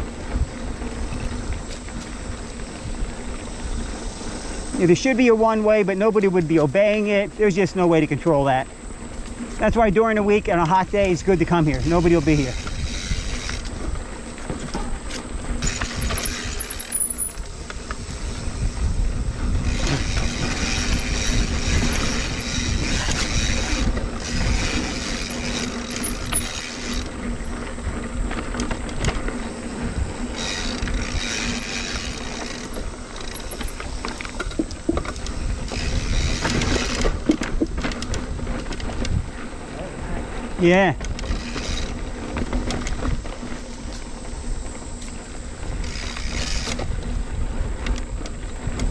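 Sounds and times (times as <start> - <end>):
wind rumble on microphone: 0.0 - 5.6, 7.6 - 48.9
bicycle tyre and frame rattle: 0.0 - 48.9.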